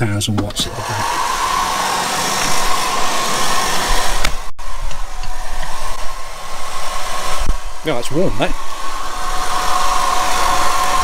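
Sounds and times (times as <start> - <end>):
hairdryer blowing with whine: 0.5 - 11.0.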